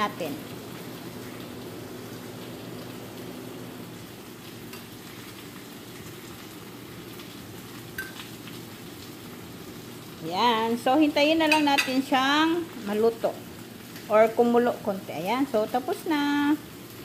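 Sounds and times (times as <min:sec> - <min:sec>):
sauce sizzling in a metal pan: 0:00.0 - 0:17.0.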